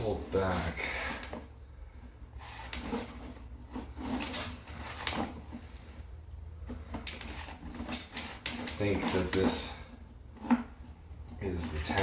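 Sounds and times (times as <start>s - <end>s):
cable scraping in a pipe: 0.0s - 12.0s.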